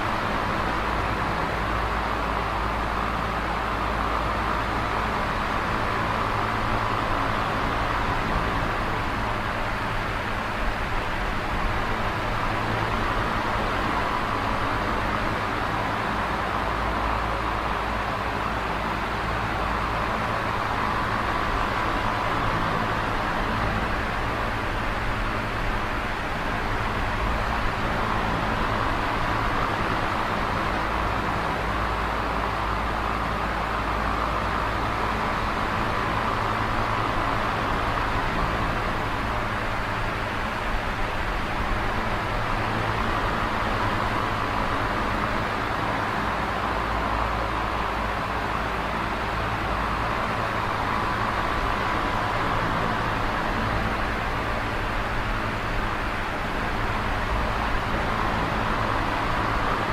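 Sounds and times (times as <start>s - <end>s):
box fan rushing air: 0.0s - 59.9s.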